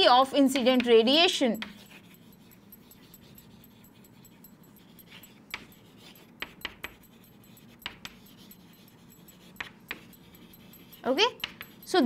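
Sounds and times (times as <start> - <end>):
chalk scratching and tapping: 0.0 - 12.0
faint steady hum: 0.0 - 12.0.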